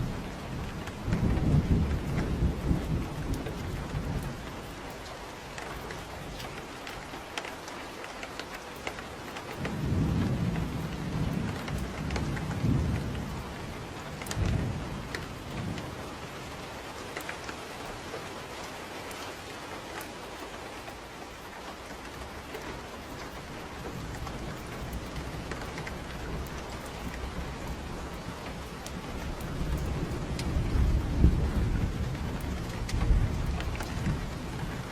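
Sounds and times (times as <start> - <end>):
thunder rumbling: 0.0 - 7.2, 9.1 - 18.2, 21.8 - 34.9
steady rain: 0.0 - 34.9
sharp ticks: 0.8 - 15.9, 20.0 - 34.8.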